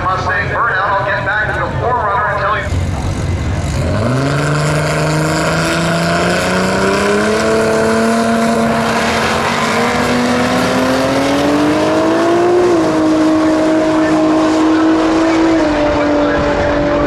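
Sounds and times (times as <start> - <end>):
drag racing engines accelerating: 0.0 - 17.0.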